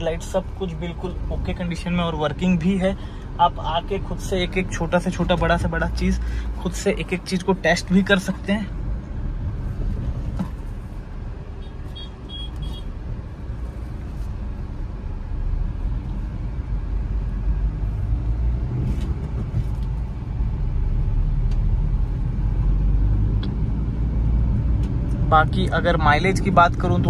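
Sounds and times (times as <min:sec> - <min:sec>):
tyre and road rumble: 0:04.0 - 0:27.0.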